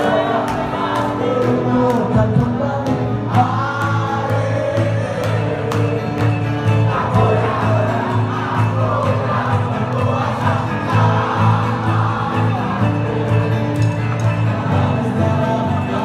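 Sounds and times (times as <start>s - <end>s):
voices singing together: 0.0s - 16.0s
pulsing bass line: 2.0s - 16.0s.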